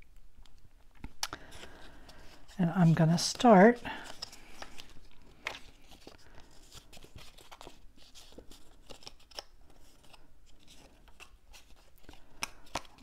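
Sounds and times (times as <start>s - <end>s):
cardstock rustling and clicking: 0.4s - 13.0s.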